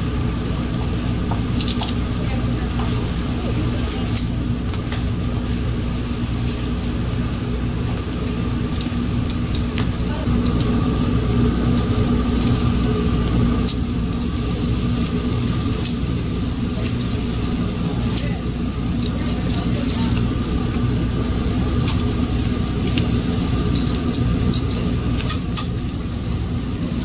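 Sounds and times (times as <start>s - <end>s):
fish grilling crackles: 0.0s - 27.0s
low rumble and hum: 0.0s - 27.0s.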